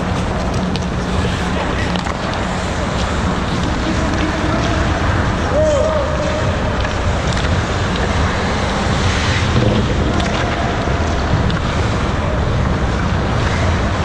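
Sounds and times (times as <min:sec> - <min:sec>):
steady low rushing noise: 0:00.0 - 0:14.0.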